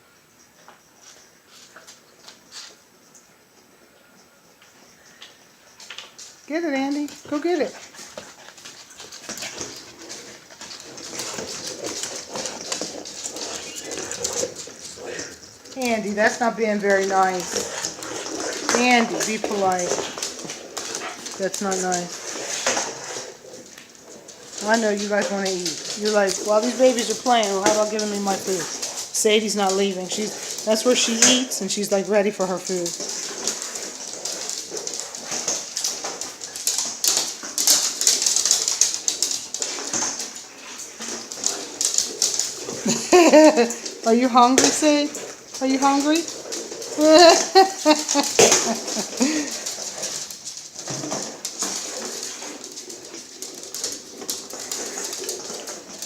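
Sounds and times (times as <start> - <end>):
puppies scuffling: 0.0 - 56.0
dog sounds: 6.7 - 56.0.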